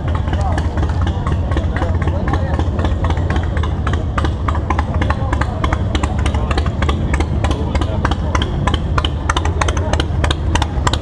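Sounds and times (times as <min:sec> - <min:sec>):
crowd chatter: 0:00.0 - 0:11.0
steady low rumble: 0:00.0 - 0:11.0.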